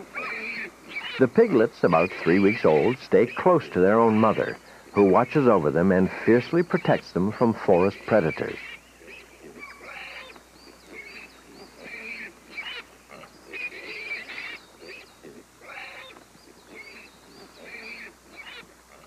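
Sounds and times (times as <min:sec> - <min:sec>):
piglets squealing: 0:00.0 - 0:19.0.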